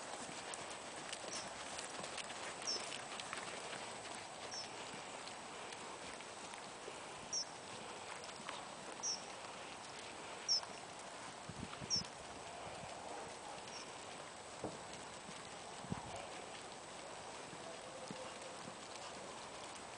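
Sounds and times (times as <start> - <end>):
muffled hoofbeats of trotting horse: 0.0 - 19.9.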